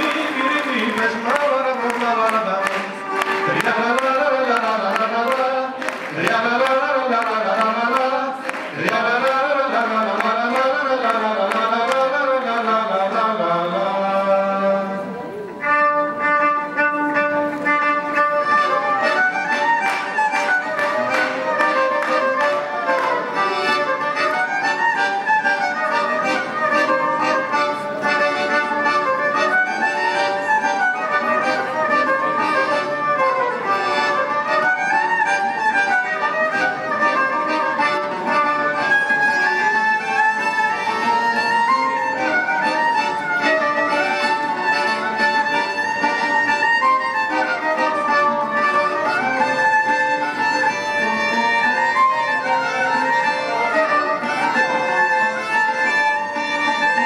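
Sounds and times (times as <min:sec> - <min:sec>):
folk dance music on violin and lute: 0:00.0 - 0:57.0.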